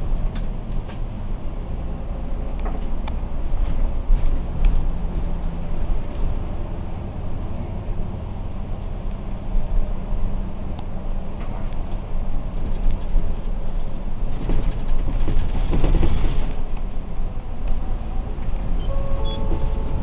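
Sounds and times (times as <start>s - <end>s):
bus body rattles: 0.0s - 20.0s
bus engine and road rumble: 0.0s - 20.0s.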